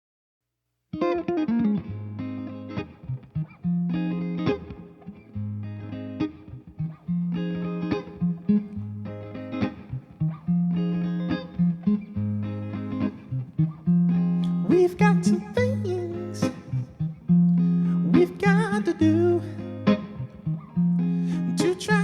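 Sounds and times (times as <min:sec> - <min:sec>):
electric guitar chords: 0:01.0 - 0:22.0.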